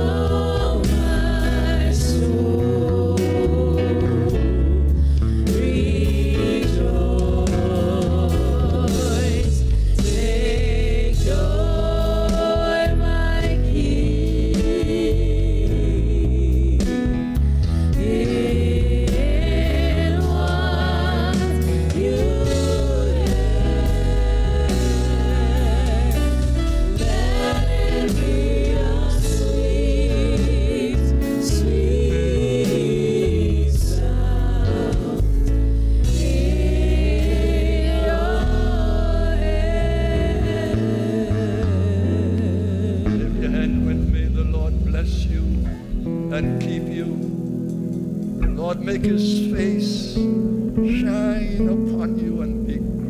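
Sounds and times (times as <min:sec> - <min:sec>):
women singing gospel: 0:00.0 - 0:43.6
bass guitar: 0:00.0 - 0:53.0
instrumental backing: 0:00.0 - 0:53.0
keyboard: 0:00.0 - 0:53.0.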